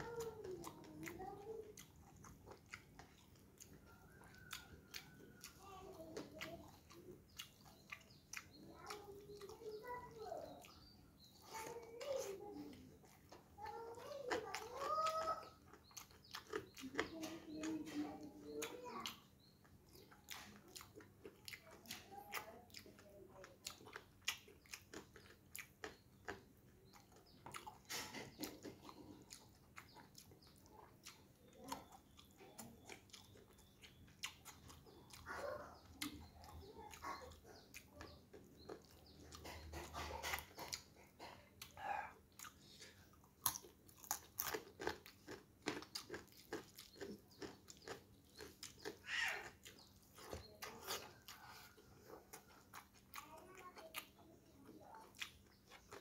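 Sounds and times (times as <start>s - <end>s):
mouth clicks: 0.0s - 56.0s
person chewing and crunching food: 0.0s - 56.0s.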